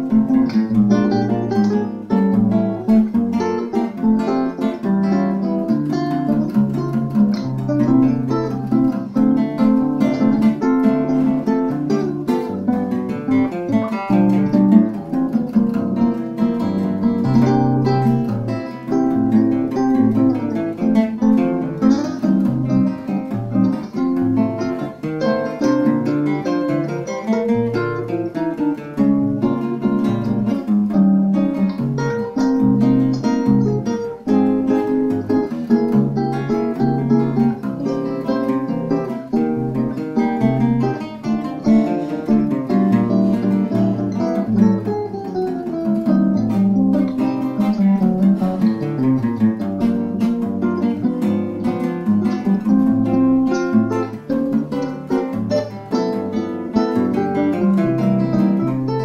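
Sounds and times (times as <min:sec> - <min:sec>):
classical guitar duet: 0:00.0 - 0:59.0.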